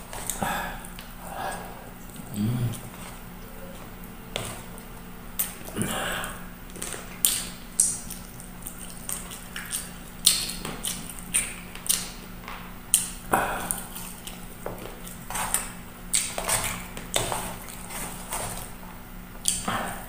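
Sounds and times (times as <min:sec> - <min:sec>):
sucking and chewing: 0:00.0 - 0:12.3, 0:12.9 - 0:18.8, 0:19.4 - 0:20.0.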